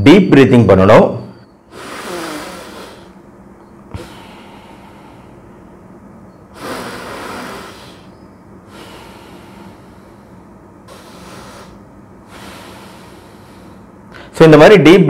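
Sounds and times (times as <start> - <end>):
man breathing deeply: 1.6 - 14.4.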